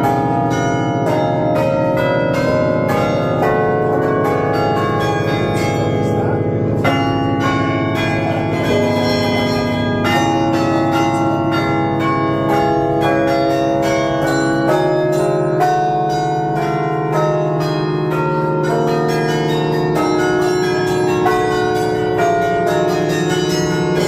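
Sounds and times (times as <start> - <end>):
carillon bells playing a melody: 0.0 - 24.0
deep bass bells ringing: 0.0 - 24.0.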